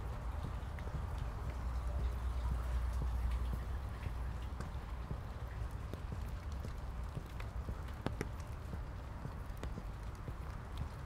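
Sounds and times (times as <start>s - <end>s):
footsteps on wet asphalt: 0.0s - 11.0s
wind rumble on microphone: 0.0s - 11.0s.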